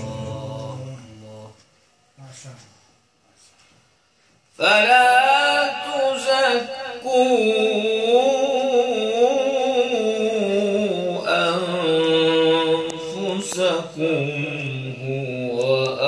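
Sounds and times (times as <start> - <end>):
man reciting melodically: 0.0 - 2.7, 4.5 - 16.0.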